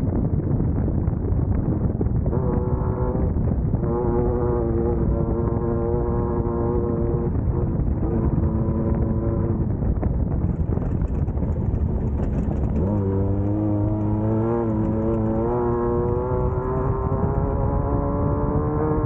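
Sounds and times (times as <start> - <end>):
race car engine running hard: 1.4 - 19.0.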